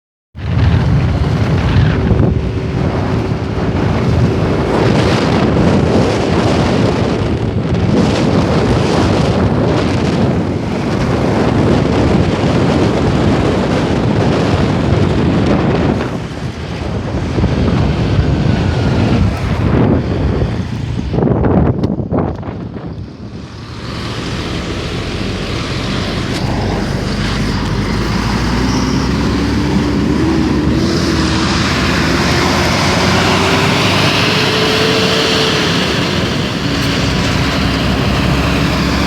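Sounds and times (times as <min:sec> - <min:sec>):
road traffic passing: 0:00.4 - 0:39.0
wind buffeting microphone: 0:00.4 - 0:39.0.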